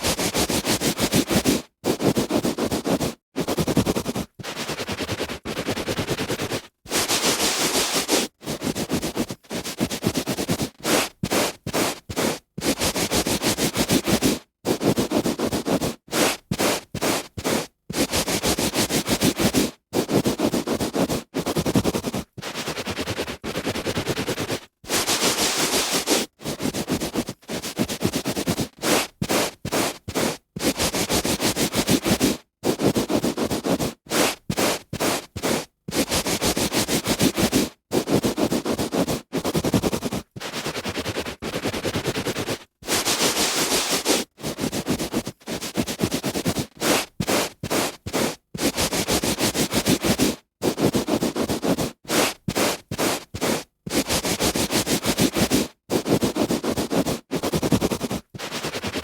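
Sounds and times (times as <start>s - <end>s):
hand rubbing on carpet: 0.0s - 59.0s.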